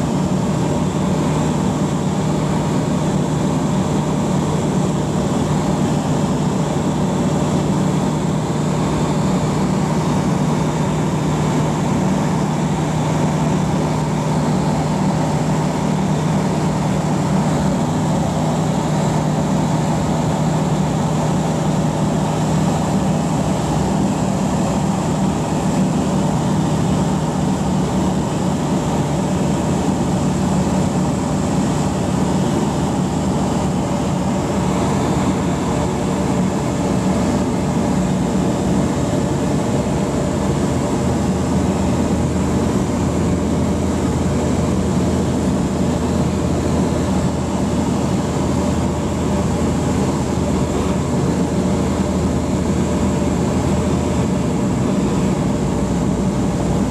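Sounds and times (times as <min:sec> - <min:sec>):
airflow noise: 0:00.0 - 0:56.9
light aircraft engine droning: 0:00.0 - 0:56.9.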